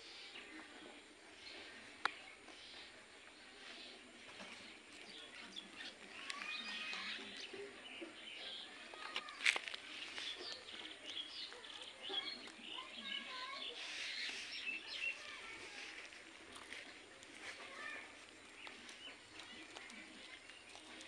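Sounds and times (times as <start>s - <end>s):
birds chirping and twittering: 0.0s - 21.0s.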